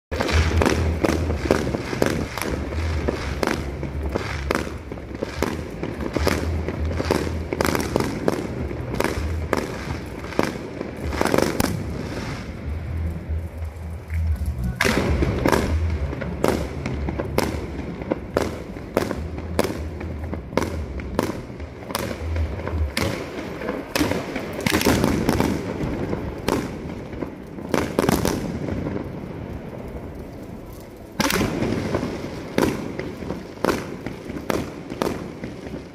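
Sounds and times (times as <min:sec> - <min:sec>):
fireworks bangs and crackling: 0:00.1 - 0:35.9.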